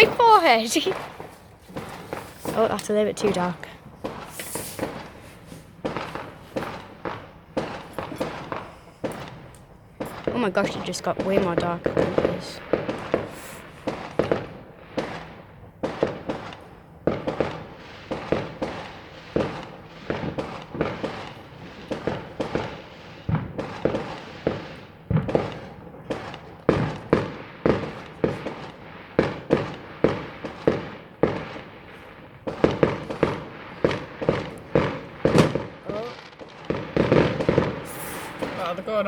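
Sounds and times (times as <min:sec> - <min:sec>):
fireworks bangs: 0:00.0 - 0:39.0.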